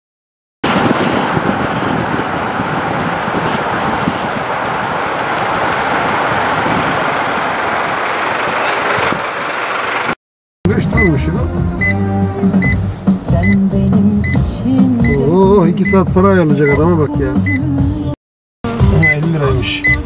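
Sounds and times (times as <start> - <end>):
road noise inside moving car: 0.7 - 17.8.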